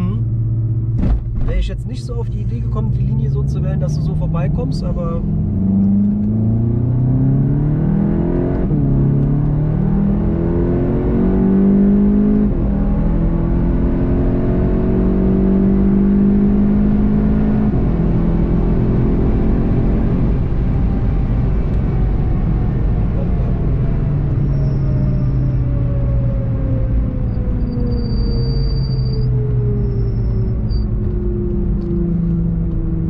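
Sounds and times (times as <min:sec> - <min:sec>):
car engine at full throttle: 0:00.0 - 0:33.0
road and wind noise: 0:00.0 - 0:33.0.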